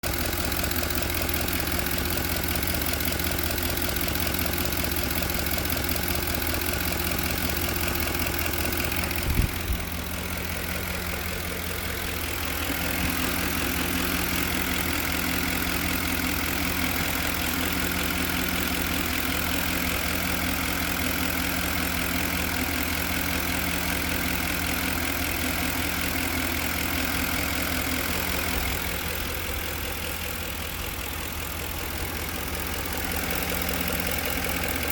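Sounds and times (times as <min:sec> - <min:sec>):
engine idling with knock: 0:00.0 - 0:34.9.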